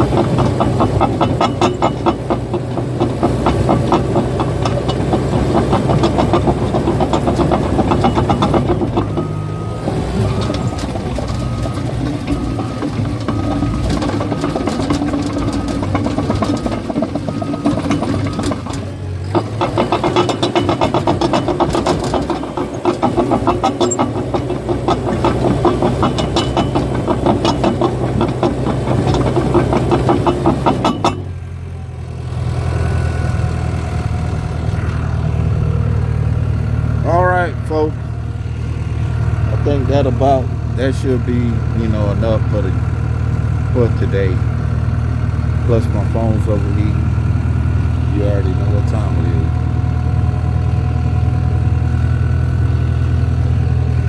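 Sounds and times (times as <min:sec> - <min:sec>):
bulldozer diesel engine running: 0:00.0 - 0:54.0
steel tracks clanking: 0:00.0 - 0:54.0.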